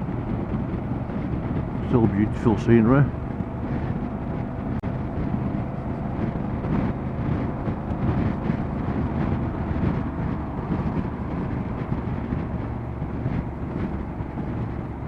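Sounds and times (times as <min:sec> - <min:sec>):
motorcycle engine drone: 0:00.0 - 0:15.0
wind buffeting microphone: 0:00.0 - 0:15.0.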